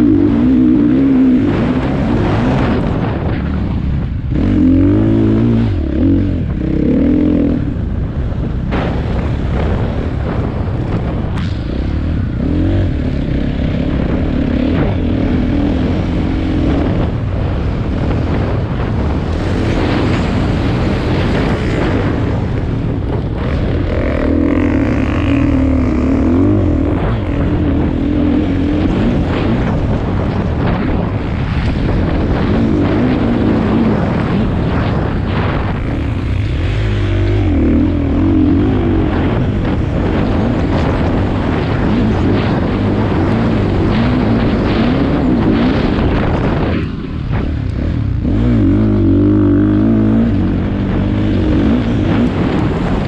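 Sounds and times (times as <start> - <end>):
motorbike engine revving: 0.0 - 53.0
wind rushing: 0.0 - 53.0.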